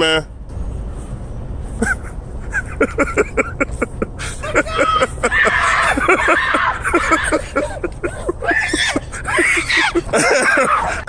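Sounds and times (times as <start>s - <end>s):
people yelling and laughing: 1.8s - 11.0s.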